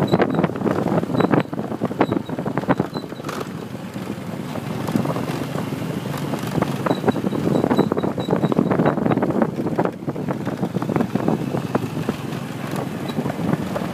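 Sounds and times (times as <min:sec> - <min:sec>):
motorbike engine running: 0:00.0 - 0:13.9
wind buffeting microphone: 0:00.0 - 0:13.9.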